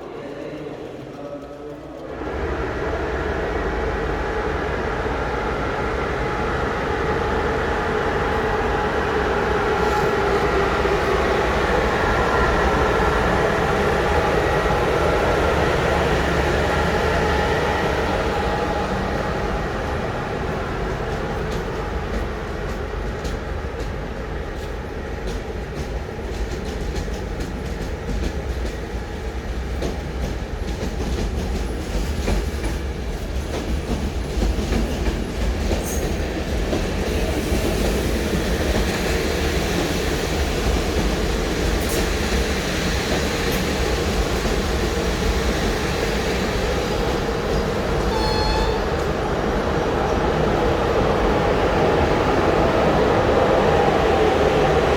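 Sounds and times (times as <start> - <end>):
train drone: 0.0 - 54.9.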